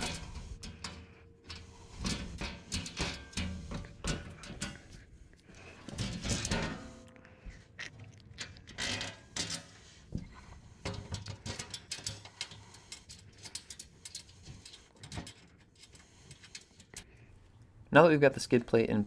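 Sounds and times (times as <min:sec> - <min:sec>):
metal plate shifting: 0:00.0 - 0:07.4, 0:08.3 - 0:16.6.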